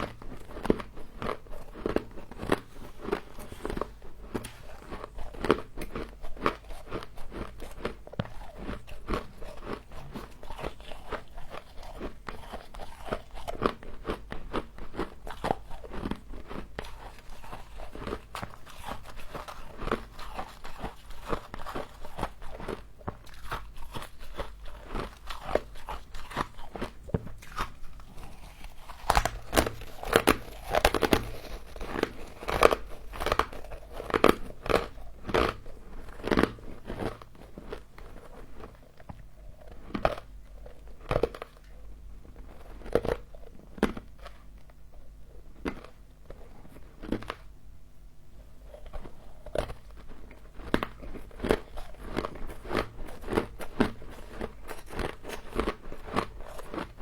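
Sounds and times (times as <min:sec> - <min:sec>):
chewing crunchy frost: 0:00.0 - 0:47.6, 0:48.3 - 0:57.0.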